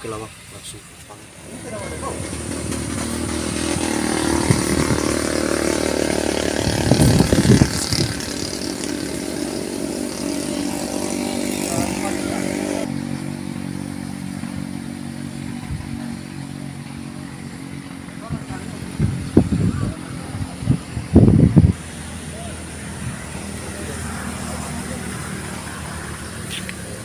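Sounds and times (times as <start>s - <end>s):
small engine running: 1.3s - 27.0s.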